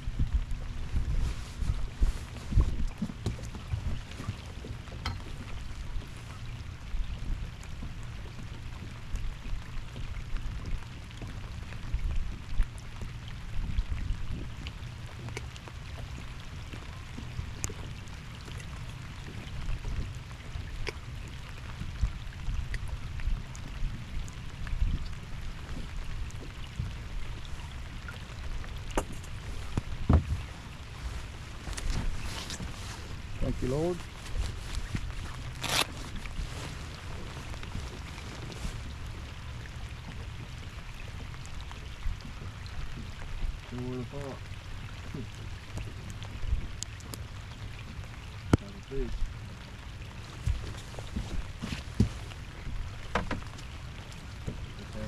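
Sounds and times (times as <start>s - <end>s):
low uneven rumble: 0.0s - 55.0s
water lapping against boat: 0.0s - 55.0s.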